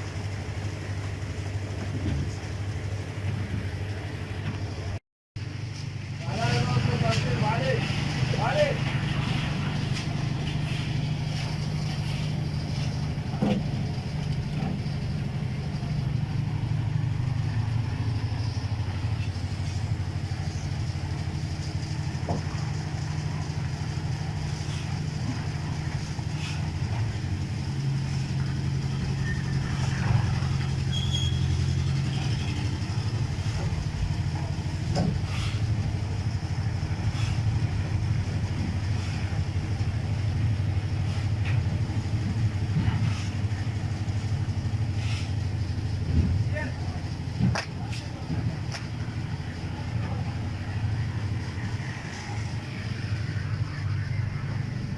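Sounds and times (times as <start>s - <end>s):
motor engine running: 0.0s - 54.9s.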